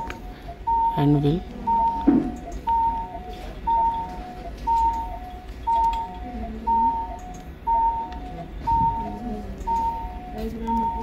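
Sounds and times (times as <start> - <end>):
low background hum: 0.0 - 11.0
two-tone medical alarm beeping: 0.0 - 11.0.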